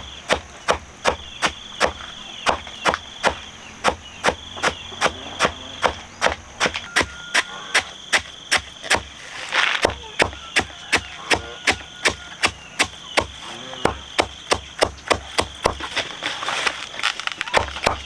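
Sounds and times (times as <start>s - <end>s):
rapid chopping strikes: 0.0s - 9.2s, 9.8s - 16.0s, 17.6s - 18.0s.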